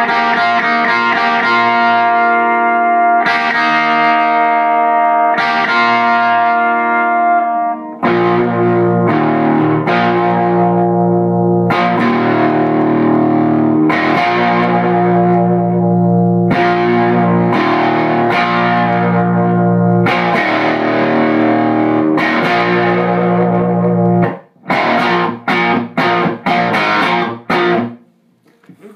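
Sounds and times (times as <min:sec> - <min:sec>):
electric guitar chords strummed: 0:00.0 - 0:28.1.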